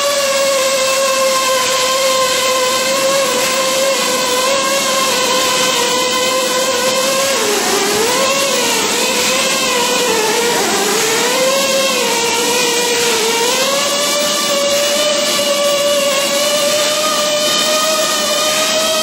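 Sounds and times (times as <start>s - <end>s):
motor whining: 0.0s - 19.0s.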